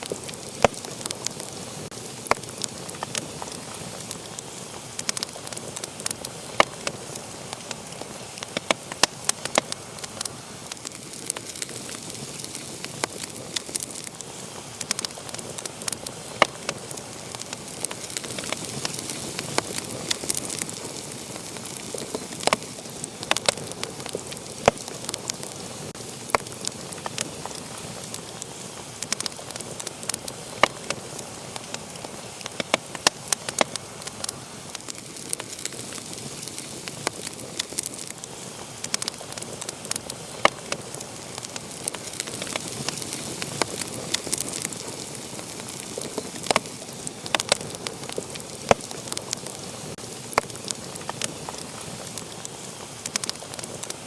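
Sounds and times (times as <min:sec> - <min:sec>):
fire popping and snapping: 0:00.0 - 0:54.0
soft hiss of flames: 0:00.0 - 0:54.0.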